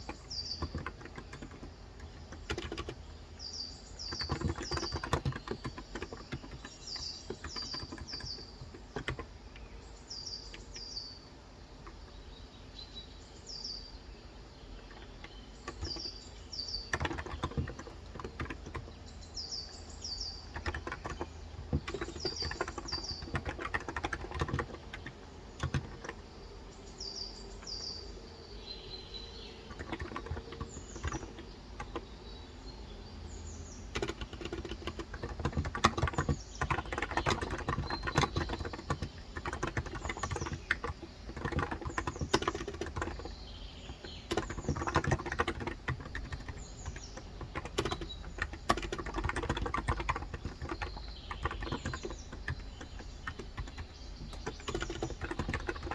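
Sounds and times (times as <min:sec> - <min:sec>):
soft keyboard typing: 0:00.0 - 0:11.0, 0:14.7 - 0:26.4, 0:27.1 - 0:32.8, 0:33.7 - 0:55.9
birds chirping: 0:00.0 - 0:55.9.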